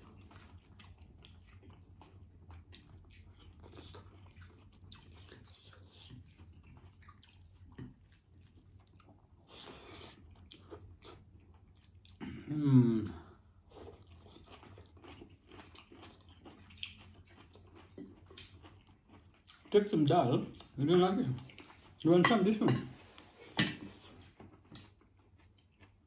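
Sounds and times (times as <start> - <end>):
people chewing and smacking: 0.0 - 26.0.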